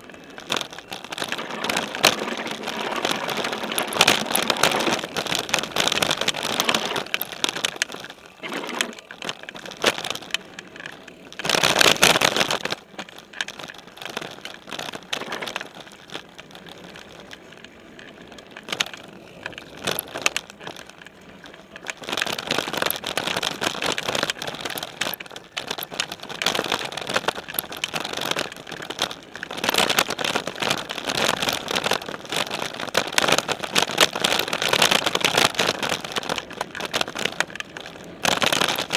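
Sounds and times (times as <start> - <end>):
bike rattling and clicking: 0.0 - 38.9
bike tyres on dirt: 0.0 - 38.9.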